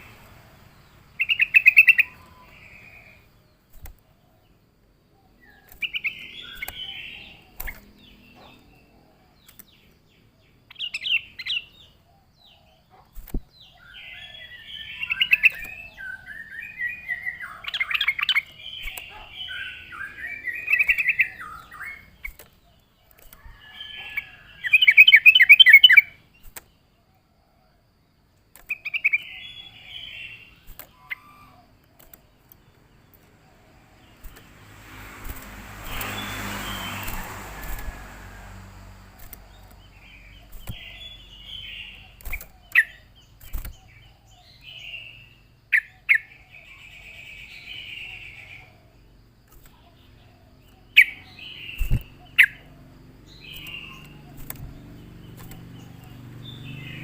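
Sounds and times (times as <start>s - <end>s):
bird singing chattering phrases: 0.0s - 26.9s, 28.6s - 34.6s, 38.9s - 57.0s.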